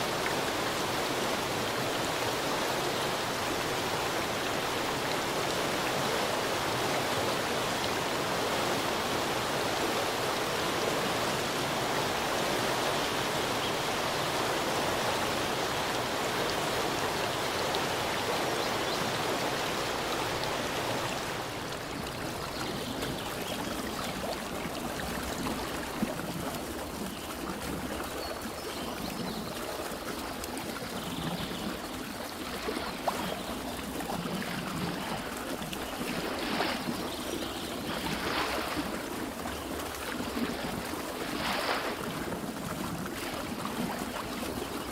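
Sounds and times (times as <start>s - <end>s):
stream running over rocks: 0.0s - 44.9s.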